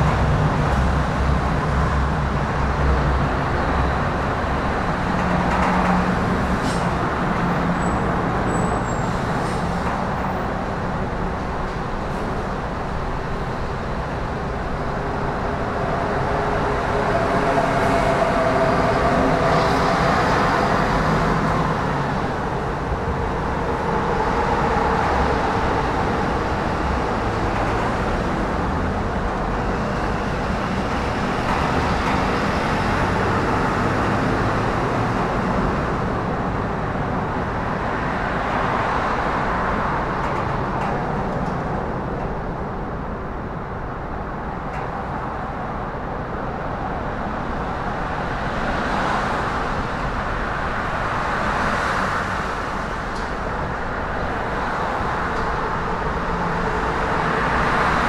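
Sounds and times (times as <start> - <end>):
road traffic rumble and hiss: 0.0 - 58.0.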